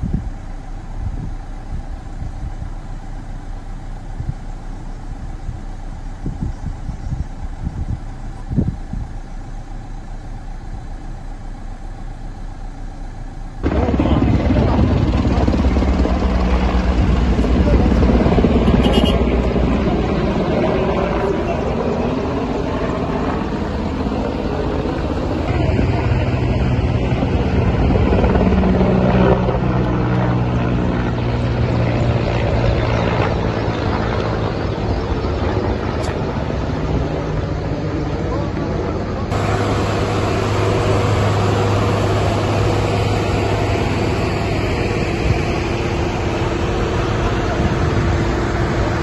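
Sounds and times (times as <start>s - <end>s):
helicopter rotor rumble: 0.0s - 49.0s
steady background noise: 0.0s - 49.0s.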